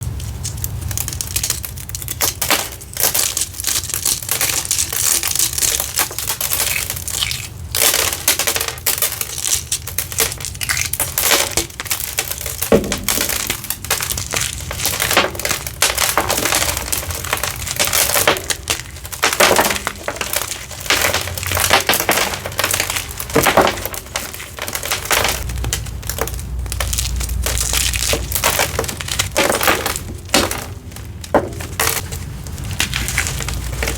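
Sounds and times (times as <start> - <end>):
chalk being crushed and crumbled: 0.0 - 33.9.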